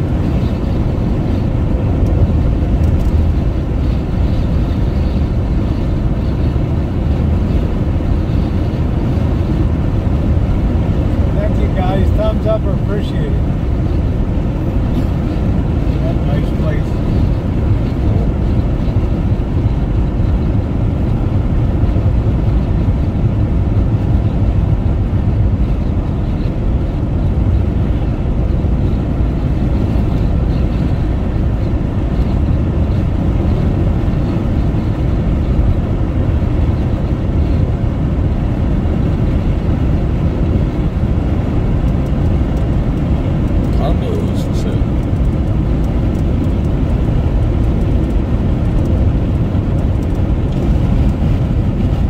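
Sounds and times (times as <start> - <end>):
car road noise at highway speed: 0.0 - 52.0.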